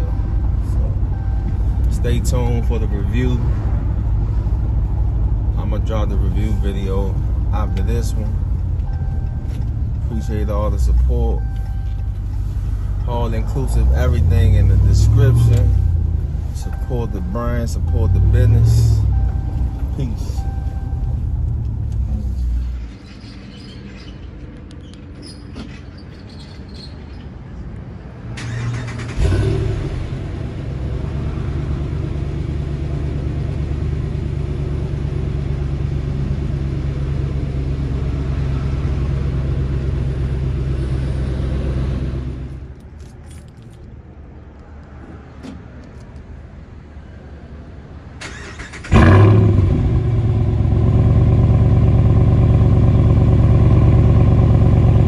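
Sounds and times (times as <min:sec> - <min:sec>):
pickup engine low drone: 0:00.0 - 0:23.2, 0:28.4 - 0:43.1, 0:48.3 - 0:55.0.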